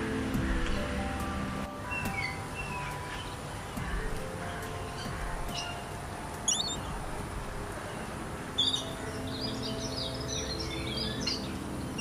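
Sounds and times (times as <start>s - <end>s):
small birds twittering: 1.7s - 12.0s.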